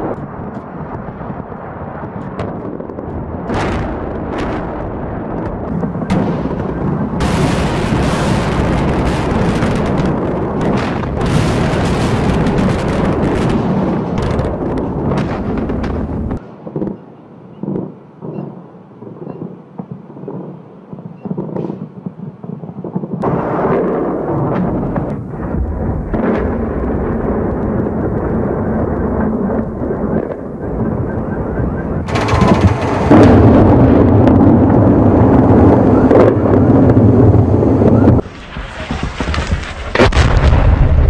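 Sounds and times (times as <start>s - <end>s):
explosions rumbling: 0.0s - 41.0s.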